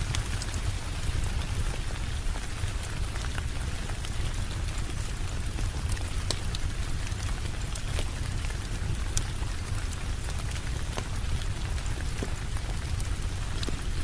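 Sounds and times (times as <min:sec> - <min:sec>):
raindrops ticking: 0:00.0 - 0:14.0
steady rain hiss: 0:00.0 - 0:14.0.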